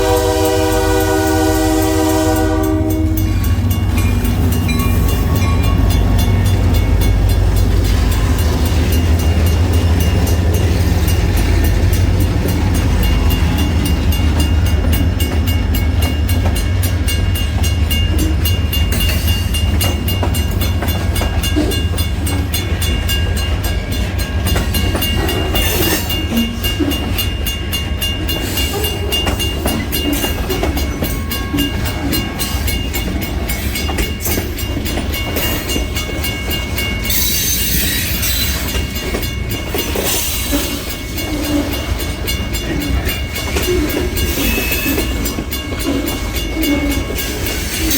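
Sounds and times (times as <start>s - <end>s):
diesel locomotive rumble: 0.0s - 47.9s
train wheels clicking over rail joints: 0.0s - 47.9s.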